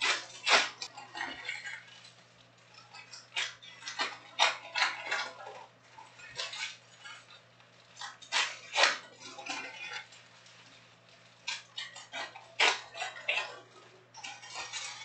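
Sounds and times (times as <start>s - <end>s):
foil packs crinkling: 0.0s - 15.0s.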